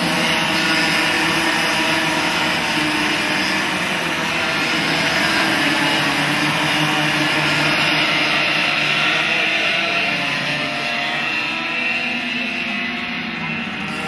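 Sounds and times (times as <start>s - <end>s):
kart engines droning: 0.0s - 14.0s.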